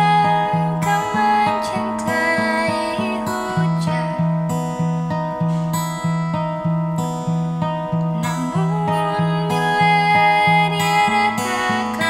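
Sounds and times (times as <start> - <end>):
acoustic guitar folk song: 0.0 - 12.0.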